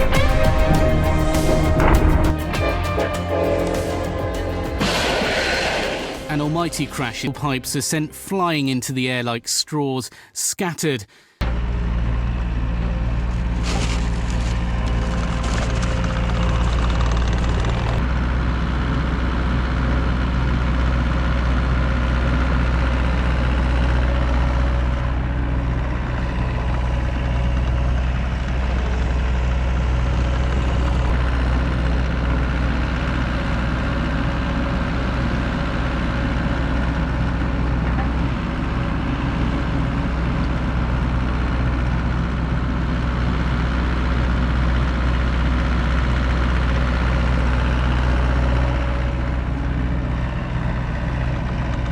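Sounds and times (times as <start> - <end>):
loader engine running steadily: 0.0 - 7.4, 11.4 - 51.9.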